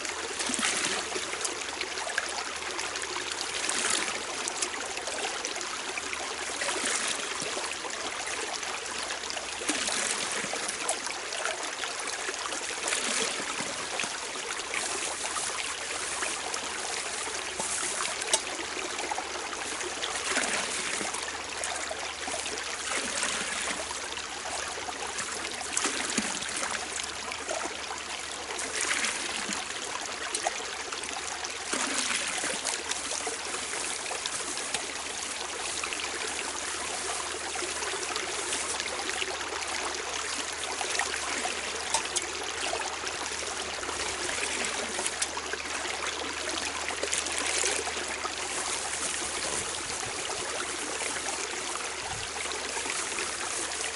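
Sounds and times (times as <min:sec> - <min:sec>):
brook rushing water: 0:00.0 - 0:53.9
water splashes: 0:00.0 - 0:53.9.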